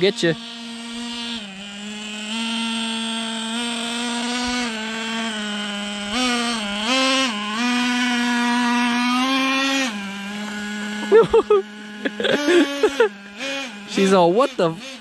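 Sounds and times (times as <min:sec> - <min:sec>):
toy truck motor buzzing: 0:00.0 - 0:15.0.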